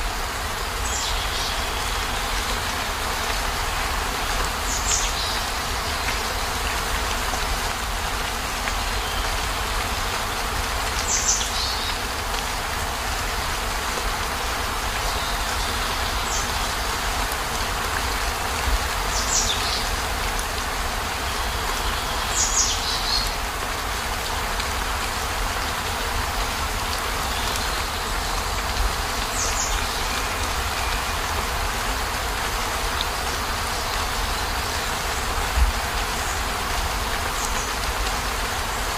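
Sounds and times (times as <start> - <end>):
rain on a vehicle roof: 0.0 - 38.9.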